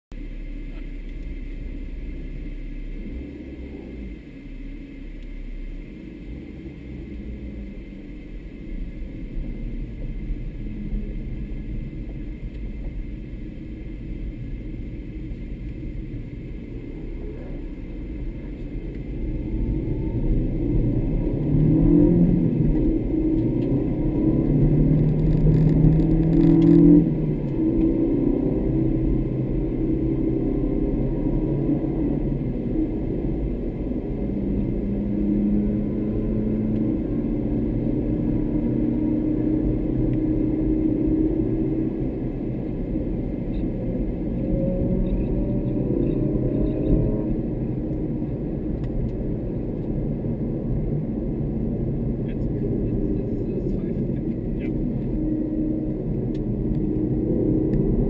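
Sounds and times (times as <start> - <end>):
road noise: 0.1 - 58.0
car engine accelerating: 0.4 - 58.0.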